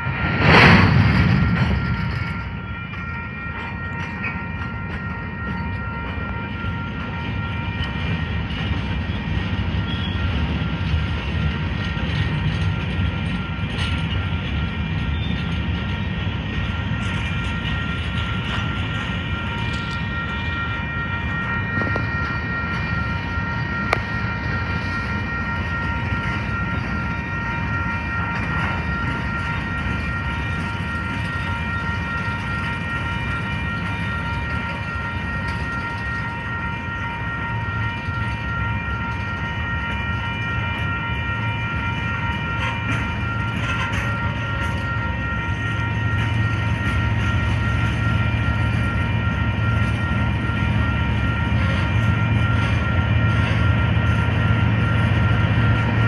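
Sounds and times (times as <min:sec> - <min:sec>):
crossing warning bell ringing: 0:00.0 - 0:56.0
freight train wheels rumbling: 0:00.0 - 0:56.0.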